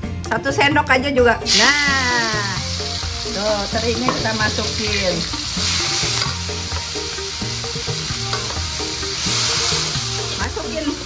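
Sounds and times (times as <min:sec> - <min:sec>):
fish sizzling in hot oil: 0:01.5 - 0:11.0.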